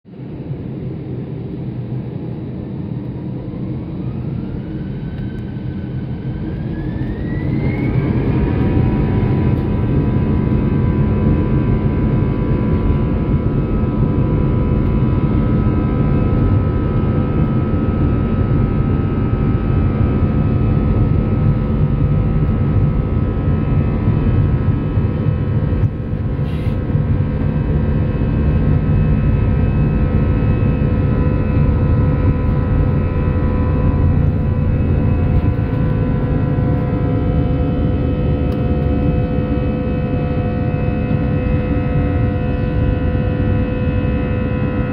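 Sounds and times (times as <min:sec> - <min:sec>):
jet engines rumbling and whining: 0:00.1 - 0:44.9.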